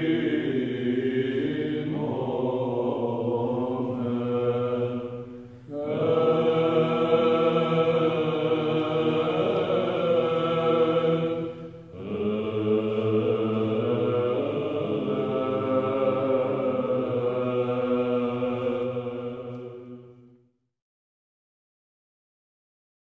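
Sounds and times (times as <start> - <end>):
men chanting over a low drone: 0.0 - 20.4.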